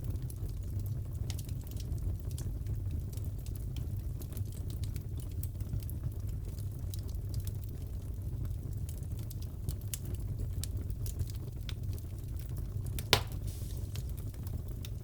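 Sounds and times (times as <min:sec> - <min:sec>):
fireplace fire crackling: 0:00.1 - 0:15.0.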